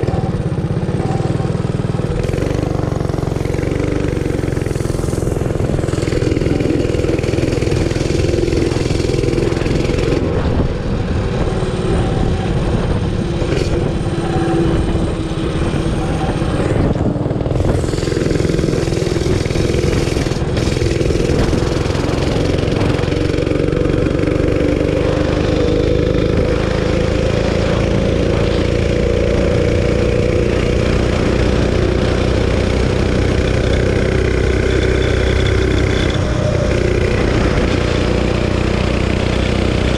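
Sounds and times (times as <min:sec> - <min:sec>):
mini bike engine under load: 0:00.0 - 0:39.9
wind on microphone: 0:00.0 - 0:39.9.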